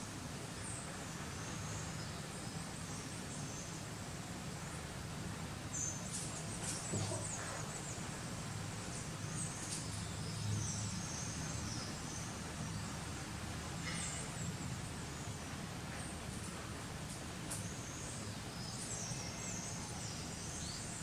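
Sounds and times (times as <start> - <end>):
steady hiss and low hum: 0.0 - 21.0.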